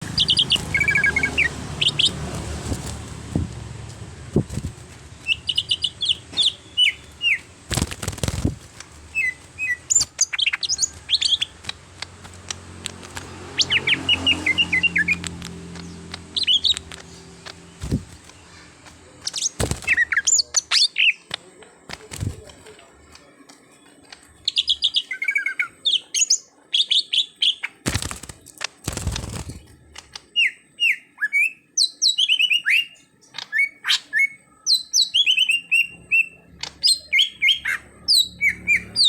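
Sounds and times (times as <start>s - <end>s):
bird chirping and trilling: 0.0s - 3.5s, 4.4s - 21.4s, 24.2s - 27.8s, 30.3s - 39.0s.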